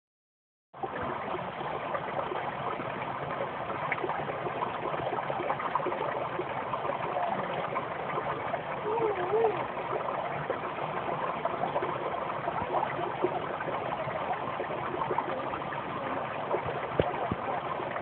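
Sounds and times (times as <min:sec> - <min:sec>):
brook babbling over stones: 0:00.8 - 0:18.0.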